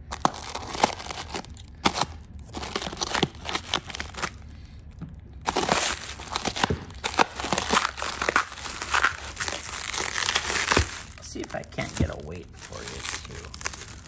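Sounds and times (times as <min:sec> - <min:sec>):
plastic wrap crinkling: 0:00.0 - 0:14.0
scissors snipping plastic wrap: 0:00.1 - 0:04.4, 0:05.5 - 0:14.0.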